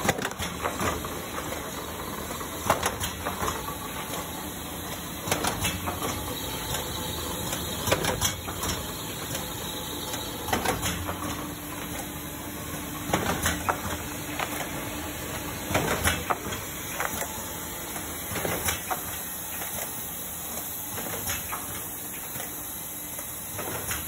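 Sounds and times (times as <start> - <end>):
laminator humming: 0.0 - 24.0.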